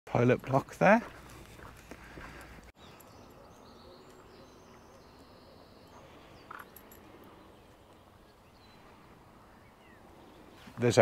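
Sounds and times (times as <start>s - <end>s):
faint outdoor ambience: 0.1s - 11.0s.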